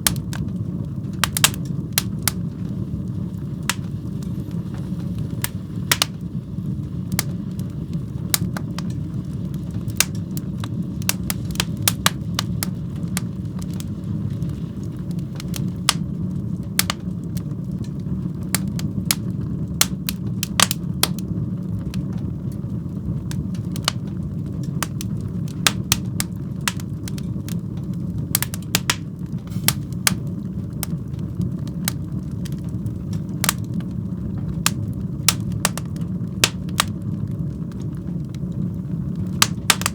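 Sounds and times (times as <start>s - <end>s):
burning wood crackling and popping: 0.0s - 39.9s
fire flames roaring: 0.0s - 39.9s.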